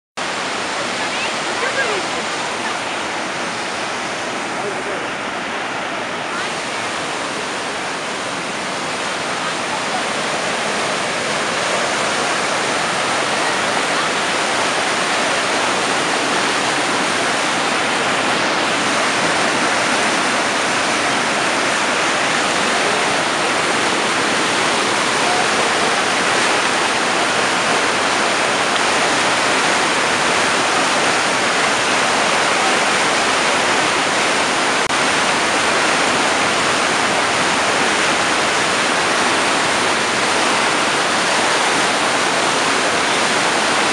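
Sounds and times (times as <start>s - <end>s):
river rushing over rapids: 0.2s - 43.9s.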